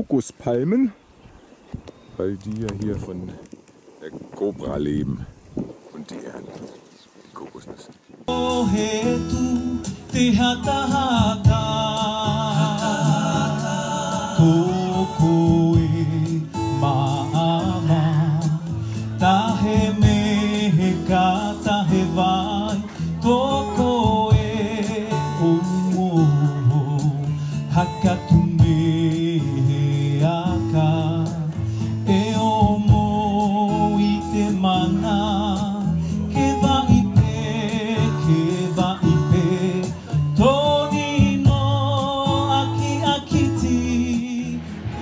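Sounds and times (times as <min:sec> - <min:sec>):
song with singing voice: 0:08.2 - 0:45.0.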